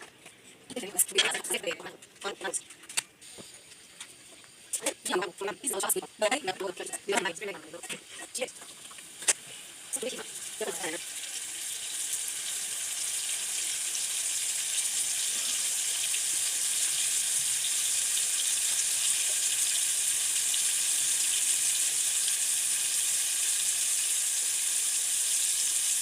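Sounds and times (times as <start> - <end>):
onions sizzling in hot oil: 3.2 - 26.0.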